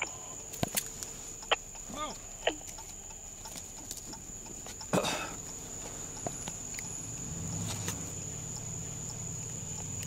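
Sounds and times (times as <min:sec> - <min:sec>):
low vehicle hum: 0:00.0 - 0:10.0.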